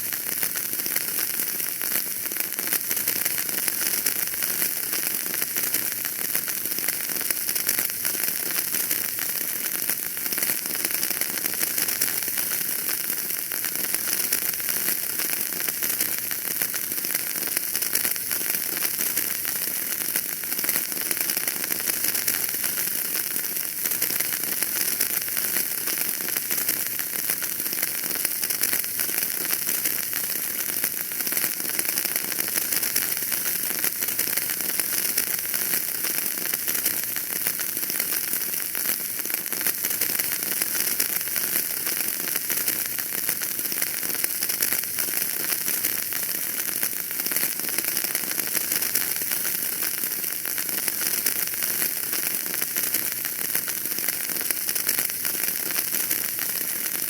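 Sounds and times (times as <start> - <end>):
fire crackling in a fireplace: 0.0 - 57.0.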